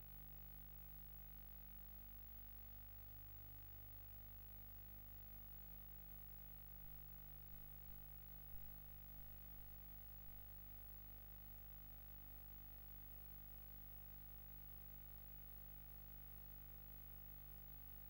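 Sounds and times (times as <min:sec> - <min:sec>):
faint low hum and hiss: 0:00.0 - 0:18.0.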